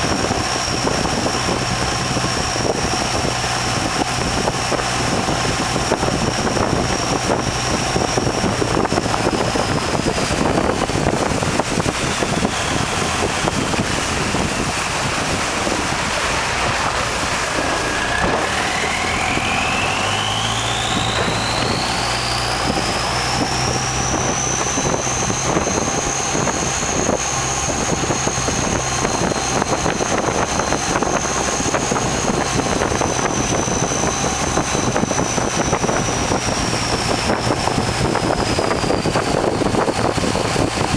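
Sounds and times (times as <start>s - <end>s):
boat engine humming: 0.0s - 40.9s
high whine sliding in pitch: 0.0s - 40.9s
wind and water rushing: 0.0s - 40.9s.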